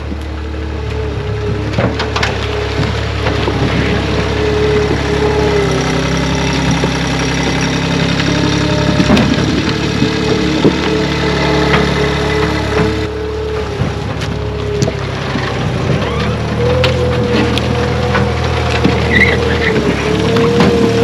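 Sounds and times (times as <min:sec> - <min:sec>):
chainsaw engine running: 0:01.4 - 0:21.0.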